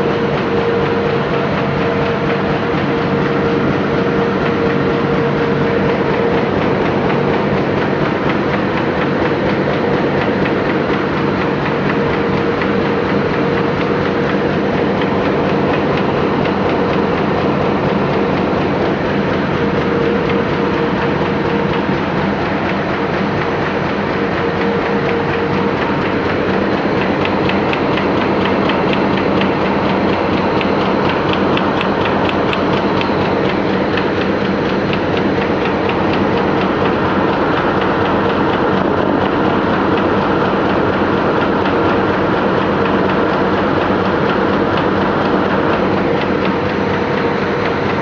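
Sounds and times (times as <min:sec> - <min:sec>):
fast regular clicking: 0:00.0 - 0:48.0
printing press mechanical din: 0:00.0 - 0:48.0.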